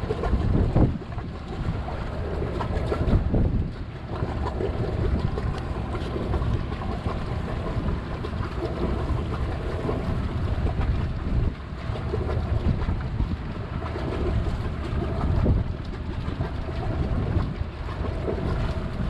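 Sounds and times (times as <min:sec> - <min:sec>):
sea wash: 0:00.0 - 0:19.0
strong wind buffeting microphone: 0:00.0 - 0:19.0.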